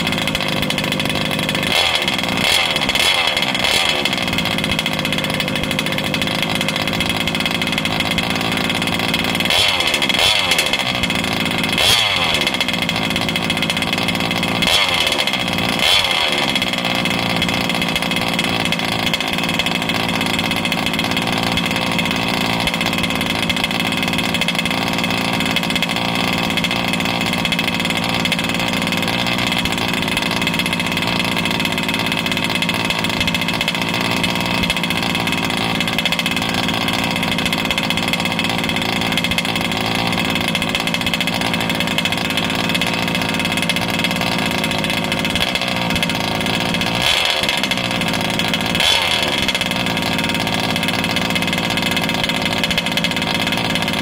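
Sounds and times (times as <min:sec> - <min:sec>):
two-stroke engine idling: 0:00.0 - 0:54.0.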